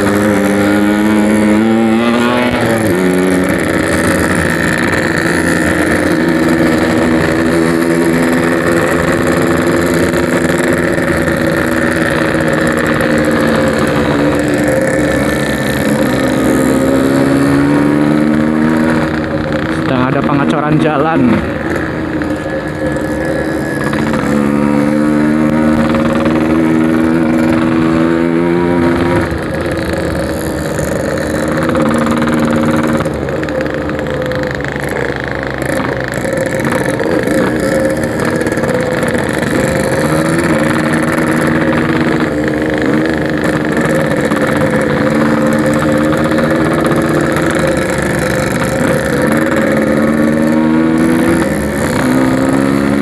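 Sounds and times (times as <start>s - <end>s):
two-stroke motorcycle engine accelerating: 0.0s - 53.0s.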